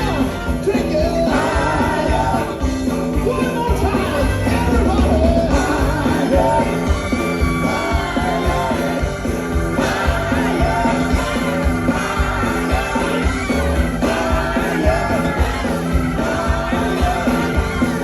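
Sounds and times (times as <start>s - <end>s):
live funk band playing: 0.0s - 18.0s
person singing: 0.0s - 18.0s.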